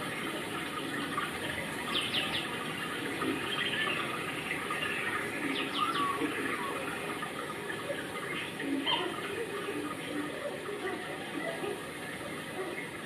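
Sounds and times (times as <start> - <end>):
steady rushing water: 0.0 - 13.0.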